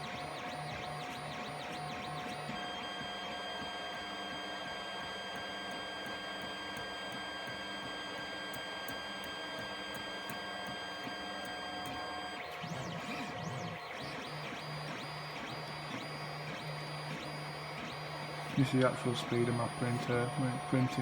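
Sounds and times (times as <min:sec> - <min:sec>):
printer stepper motors whining: 0:00.0 - 0:21.0.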